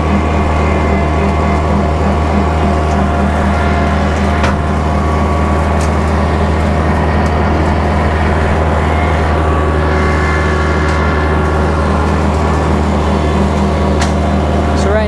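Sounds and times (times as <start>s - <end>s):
rotary cutter cutting brush: 0.0s - 15.0s
tractor diesel engine under load: 0.0s - 15.0s.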